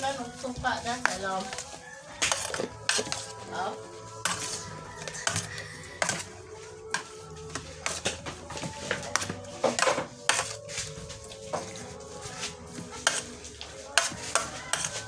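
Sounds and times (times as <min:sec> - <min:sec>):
food mixed by hand in tray: 0:00.0 - 0:15.0.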